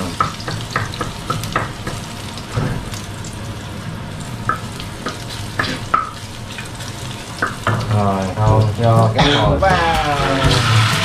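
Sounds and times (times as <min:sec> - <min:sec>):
oil sizzling in frying pan: 0:00.0 - 0:11.0.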